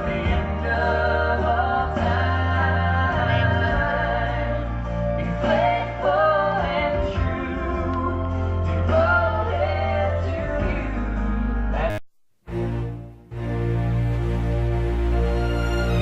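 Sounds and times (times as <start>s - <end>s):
steady bass accompaniment: 0.0s - 16.0s.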